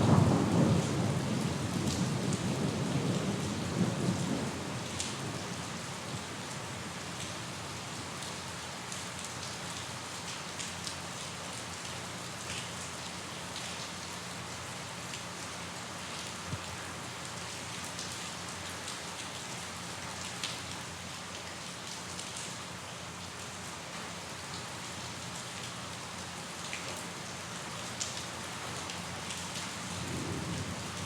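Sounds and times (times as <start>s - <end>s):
raindrops ticking on a surface: 0.0s - 31.0s
steady rain hiss: 0.0s - 31.0s.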